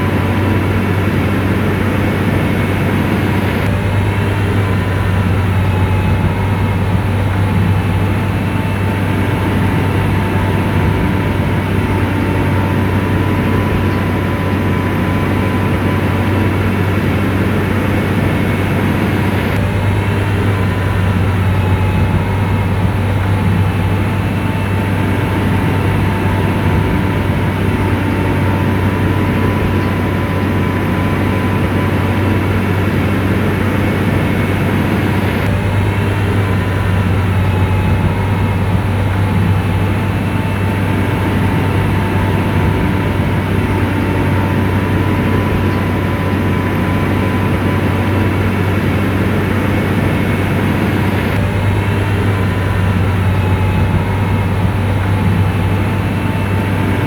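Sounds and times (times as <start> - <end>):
diesel engine running under load: 0.0 - 57.0
faint steady whine: 0.0 - 57.0.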